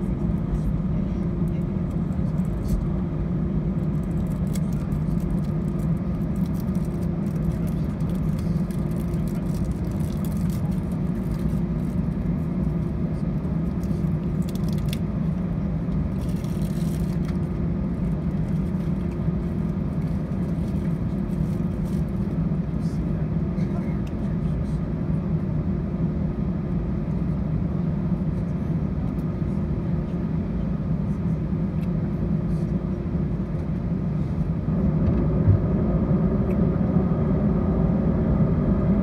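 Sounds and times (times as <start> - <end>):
engine hum in aircraft cabin: 0.0 - 39.0.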